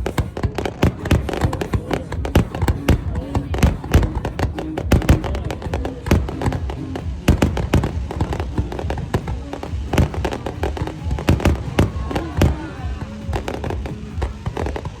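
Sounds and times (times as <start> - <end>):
fireworks bangs: 0.0 - 15.0
music: 0.0 - 15.0
voices: 0.0 - 15.0.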